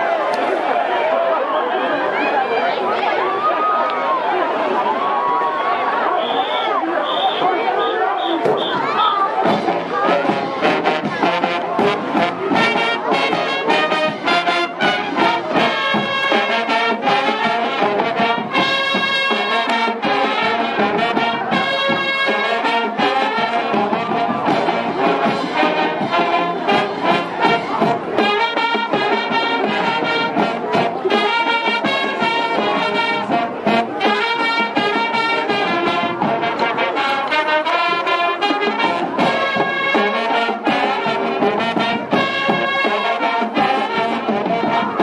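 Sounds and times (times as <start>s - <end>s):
marching band brass tune: 0.0s - 45.0s
drums beating: 7.3s - 45.0s.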